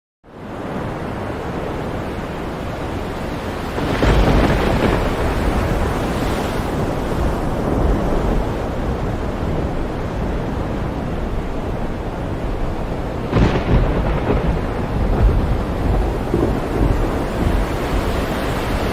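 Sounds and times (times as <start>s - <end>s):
waves surging: 0.3s - 18.9s
wind blowing: 0.4s - 18.9s.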